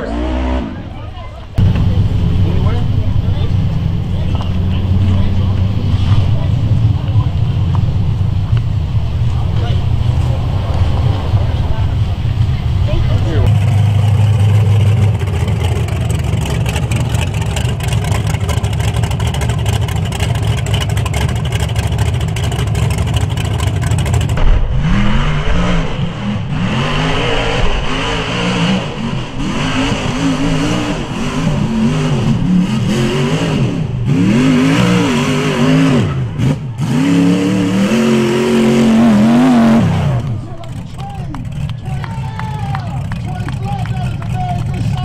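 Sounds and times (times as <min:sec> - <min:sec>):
buggy engine revving: 0:00.0 - 0:45.0.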